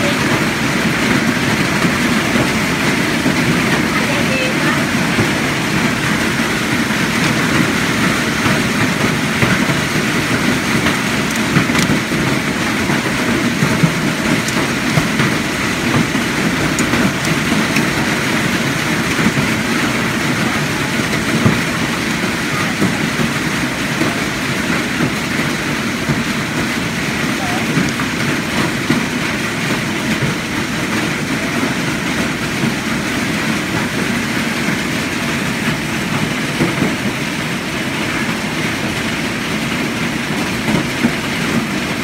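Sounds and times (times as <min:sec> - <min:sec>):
hail and rain pelting down: 0:00.0 - 0:42.0
sharp hail hits: 0:00.0 - 0:42.0.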